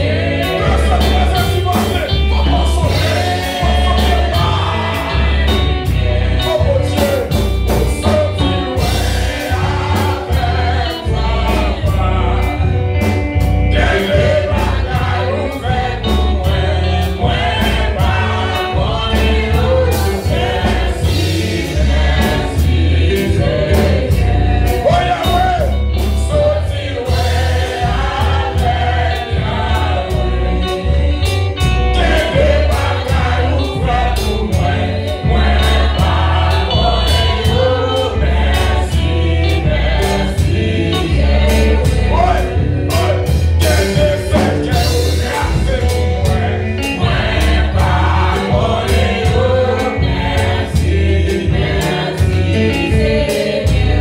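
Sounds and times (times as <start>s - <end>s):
band with bass and drums: 0.0s - 54.0s
choir singing: 0.0s - 54.0s.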